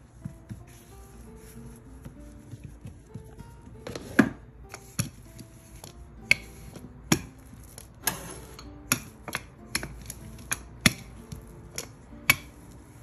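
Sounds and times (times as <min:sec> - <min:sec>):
rolling pin rolling dough: 0:00.0 - 0:13.0
rolling pin scrape: 0:00.0 - 0:13.0.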